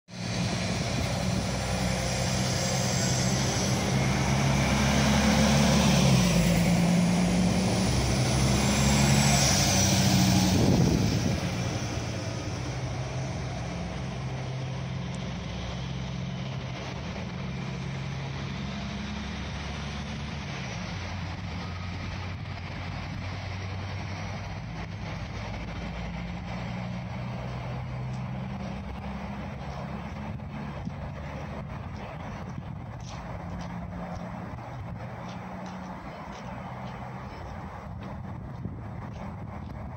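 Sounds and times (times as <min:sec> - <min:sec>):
diesel train accelerating: 0:00.1 - 0:39.9.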